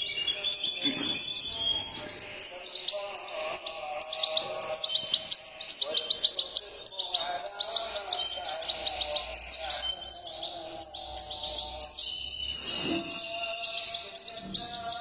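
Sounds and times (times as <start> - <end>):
goldfinches chirping: 0.0 - 15.0.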